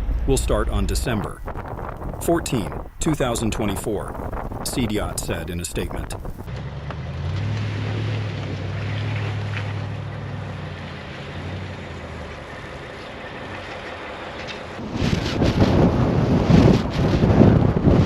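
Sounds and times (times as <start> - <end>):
vehicle engine humming: 0.0 - 14.8.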